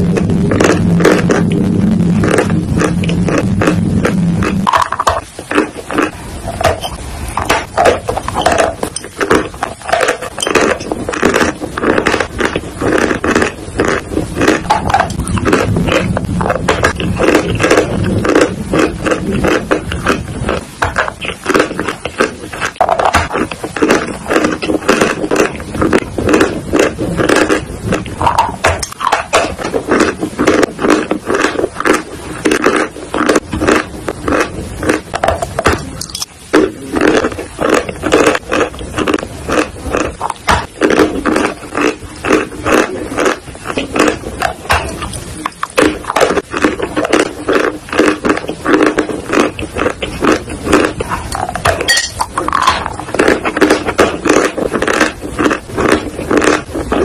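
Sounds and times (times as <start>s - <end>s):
chalk being crunched and chewed: 0.0s - 57.0s.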